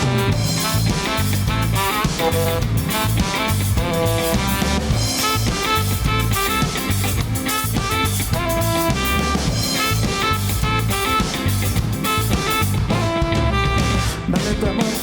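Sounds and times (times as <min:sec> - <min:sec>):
bass line: 0:00.0 - 0:15.0
drum kit beat: 0:00.0 - 0:15.0
funk band playing: 0:00.0 - 0:15.0.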